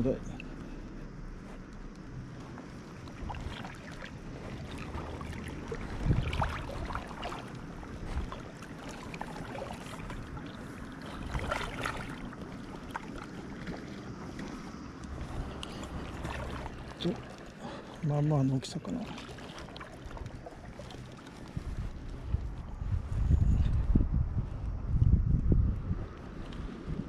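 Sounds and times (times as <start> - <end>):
water splashing and lapping: 0.0 - 23.9, 25.9 - 27.0.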